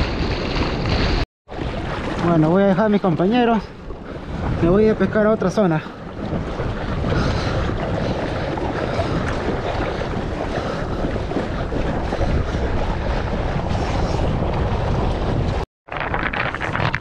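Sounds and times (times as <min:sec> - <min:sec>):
sea water sloshing: 0:00.0 - 0:16.9
wind buffeting microphone: 0:00.0 - 0:17.0.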